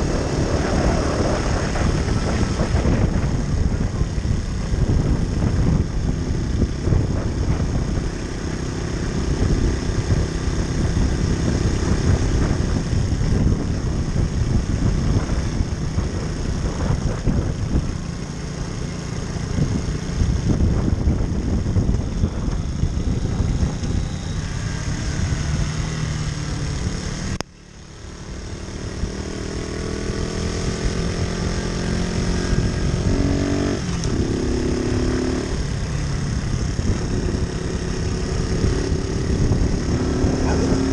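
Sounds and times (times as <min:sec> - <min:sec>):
moped engine running: 0:00.0 - 0:40.9
wind and road noise: 0:00.0 - 0:40.9.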